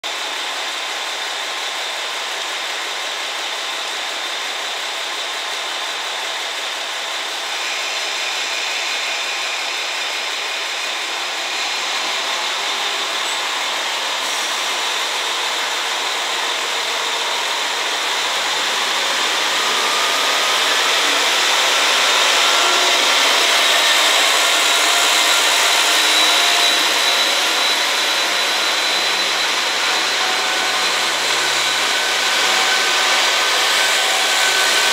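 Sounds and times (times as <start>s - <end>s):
railcar diesel engines: 0.0s - 34.9s
train cars passing: 4.5s - 34.9s.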